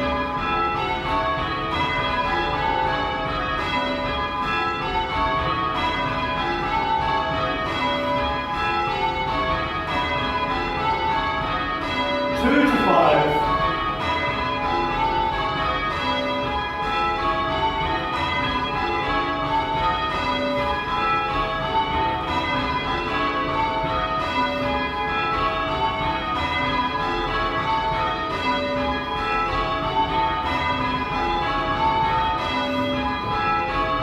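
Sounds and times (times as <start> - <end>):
church bells ringing: 0.0 - 34.0.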